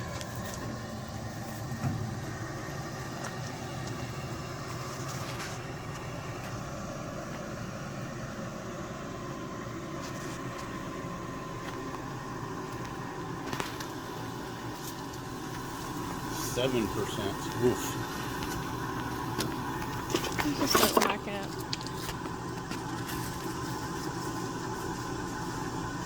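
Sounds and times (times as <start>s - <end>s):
faint whine: 0.0s - 26.0s
machine humming: 0.0s - 26.0s.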